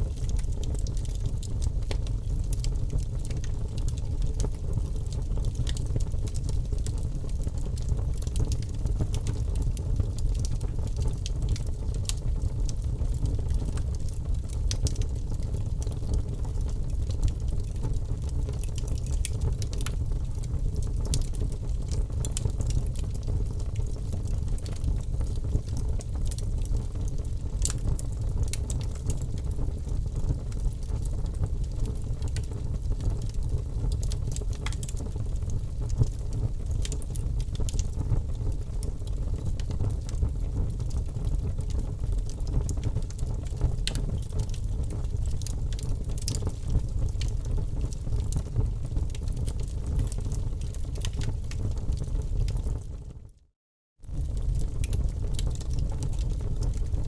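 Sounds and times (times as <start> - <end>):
fire crackling: 0.0 - 52.8, 54.1 - 57.0.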